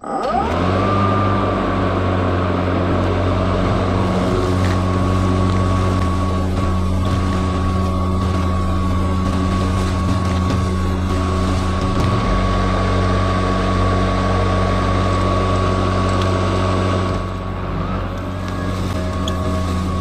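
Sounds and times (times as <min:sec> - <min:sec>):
lawn mower humming: 0:00.0 - 0:20.0.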